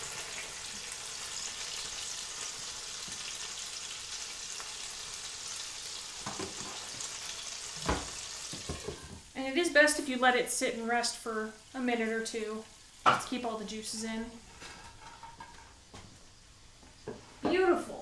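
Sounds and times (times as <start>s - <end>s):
patties sizzling in skillet: 0.0s - 17.7s.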